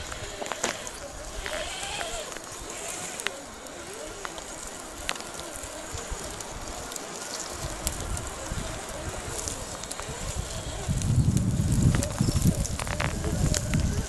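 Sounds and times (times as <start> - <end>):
electric motors whining faintly: 0.0 - 14.0
light clicks on rock: 0.0 - 14.0
wind rumbling on microphone: 0.0 - 14.0.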